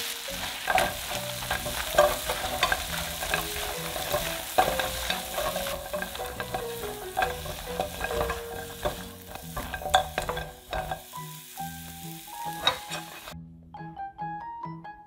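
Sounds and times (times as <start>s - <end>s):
food sizzling in a frying pan: 0.0s - 13.4s
soft piano music: 0.0s - 15.0s
spatula clacking and scraping: 0.2s - 11.3s, 12.3s - 13.4s.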